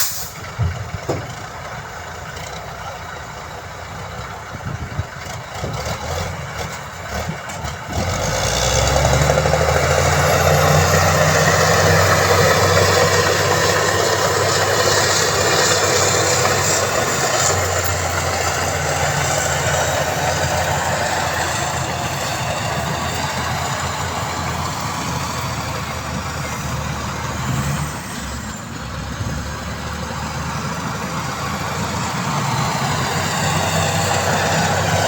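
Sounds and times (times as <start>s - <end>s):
heavy diesel engine: 0.0s - 35.0s.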